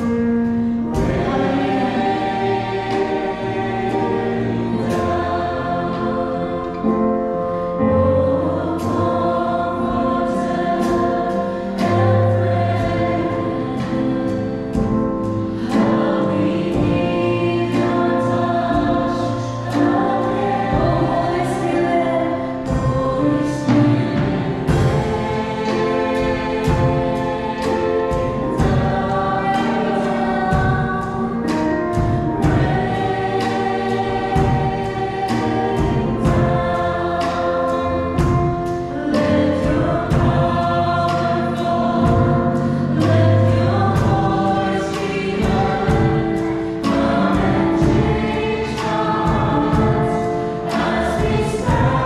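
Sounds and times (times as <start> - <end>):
choir singing: 0.0 - 52.0
drums: 0.0 - 52.0
keyboard: 0.0 - 52.0.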